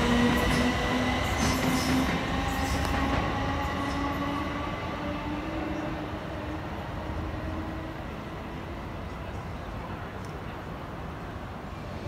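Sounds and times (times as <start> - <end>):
passenger train rumble: 0.0 - 12.0.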